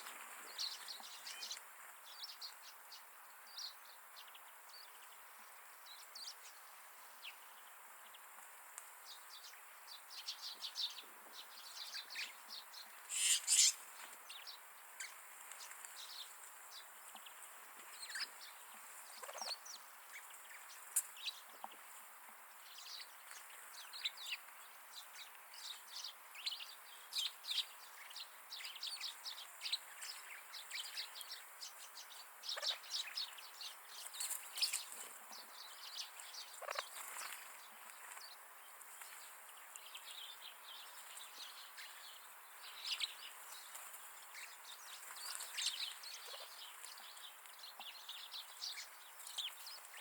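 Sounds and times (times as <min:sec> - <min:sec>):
flock of birds chirping: 0:00.0 - 0:50.0.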